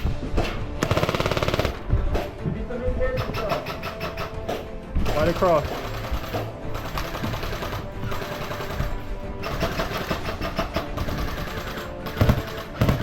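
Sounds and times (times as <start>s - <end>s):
airsoft guns firing bursts: 0.8s - 1.9s, 3.1s - 13.0s.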